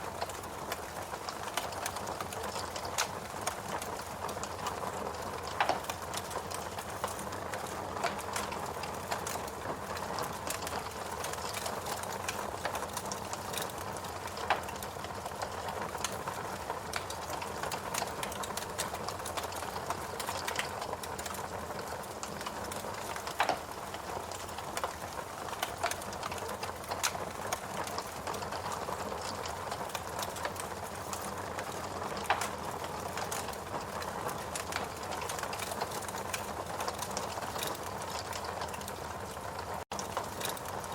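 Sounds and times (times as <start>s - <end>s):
fireplace crackling and popping: 0.0s - 40.9s.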